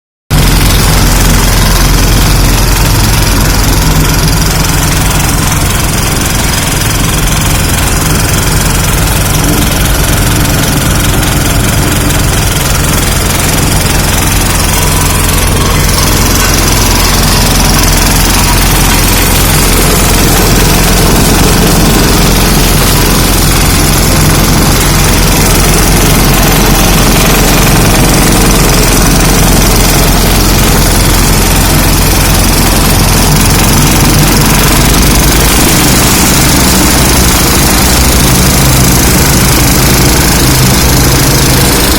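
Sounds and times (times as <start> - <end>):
diesel engine running loudly: 0.3 - 41.9.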